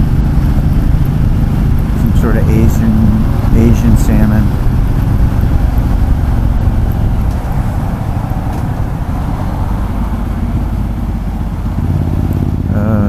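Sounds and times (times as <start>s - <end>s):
motorcycle engine running at speed: 0.0s - 13.0s
wind and road noise on microphone: 0.0s - 13.0s.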